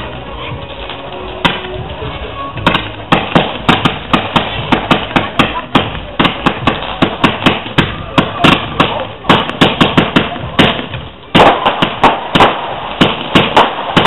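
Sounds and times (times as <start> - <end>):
fireworks firing sharp shots: 0.0 - 14.0.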